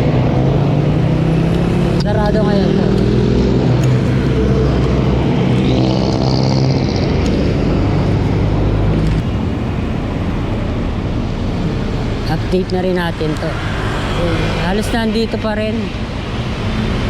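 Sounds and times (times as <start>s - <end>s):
road and traffic noise: 0.0s - 17.0s
vehicle engine running: 0.0s - 17.0s.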